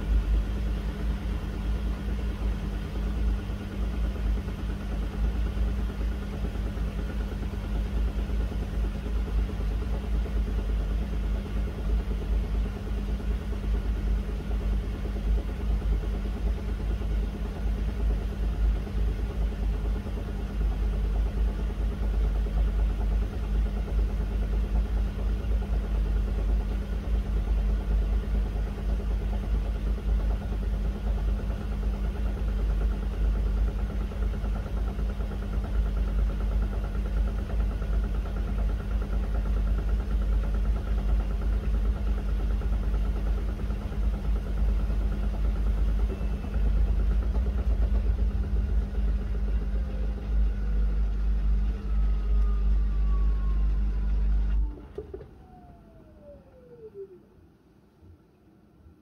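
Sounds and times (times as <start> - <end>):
washing machine running: 0.0 - 58.1.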